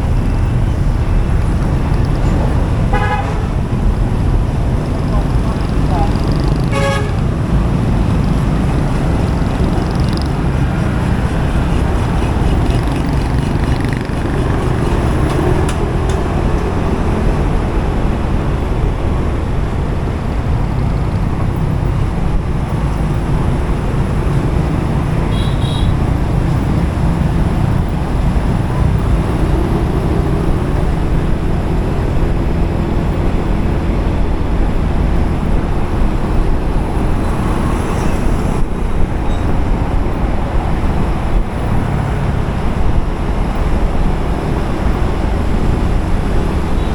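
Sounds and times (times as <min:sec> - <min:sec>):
road traffic engines: 0:00.0 - 0:46.9
tyre and wind rumble: 0:00.0 - 0:46.9.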